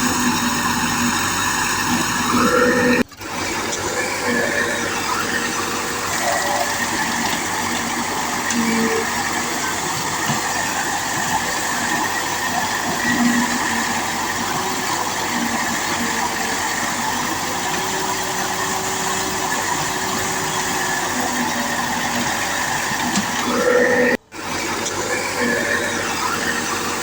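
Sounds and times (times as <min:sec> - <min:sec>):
heavy machine engine running: 0:00.0 - 0:27.0.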